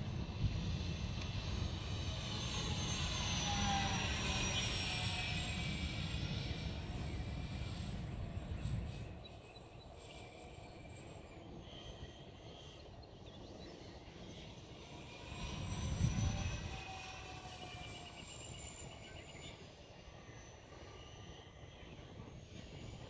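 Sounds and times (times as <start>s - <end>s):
model airplane propellers whining: 0.0s - 23.0s.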